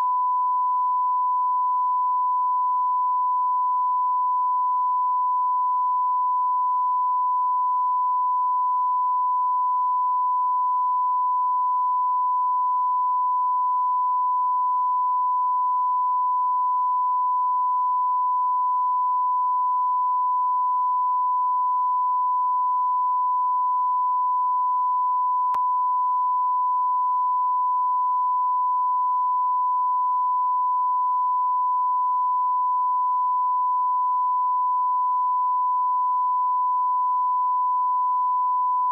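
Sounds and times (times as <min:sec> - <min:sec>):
steady sine tone: 0:00.0 - 0:38.9.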